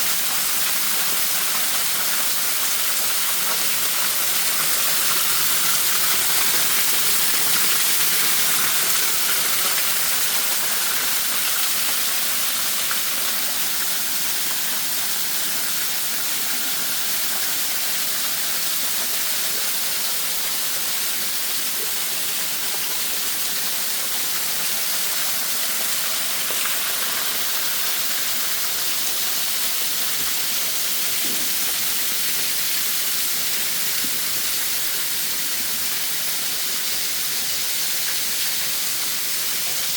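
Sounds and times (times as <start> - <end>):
waterfall hissing: 0.0 - 39.9.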